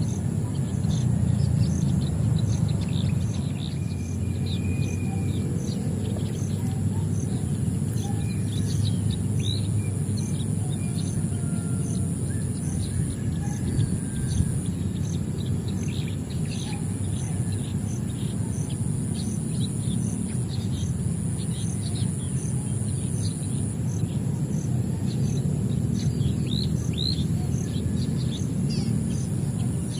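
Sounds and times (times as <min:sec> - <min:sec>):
high insect drone: 0:00.0 - 0:29.9
low rumbling background: 0:00.0 - 0:29.9
small birds chirping: 0:00.0 - 0:29.9.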